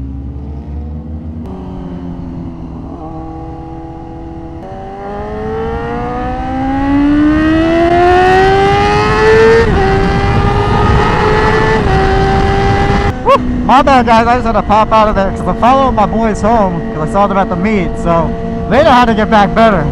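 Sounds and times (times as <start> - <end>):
motorcycle engine accelerating: 0.0 - 19.9
wind rumble: 0.0 - 19.9.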